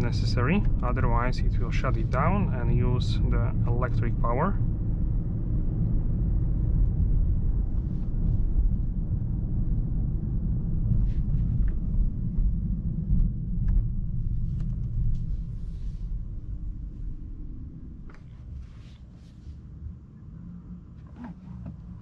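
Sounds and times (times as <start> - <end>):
car cabin low rumble: 0.0 - 22.0.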